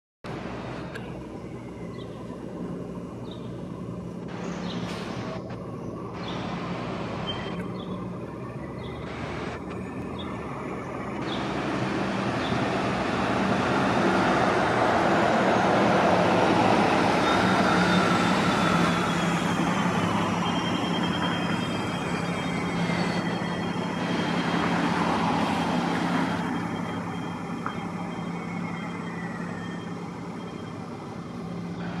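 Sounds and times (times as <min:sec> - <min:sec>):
bus engine and tyre noise: 0:00.2 - 0:32.0.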